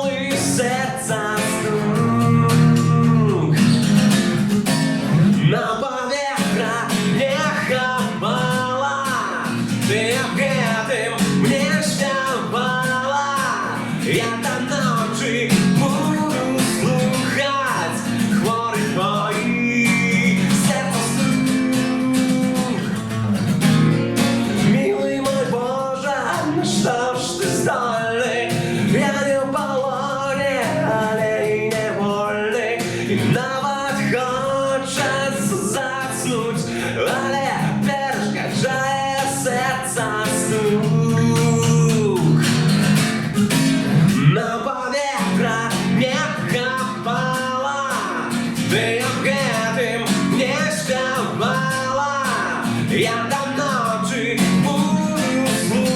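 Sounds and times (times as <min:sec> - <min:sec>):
person singing: 0:00.0 - 0:23.3, 0:24.5 - 0:42.8, 0:43.4 - 0:55.9
guitar accompaniment: 0:00.0 - 0:55.9.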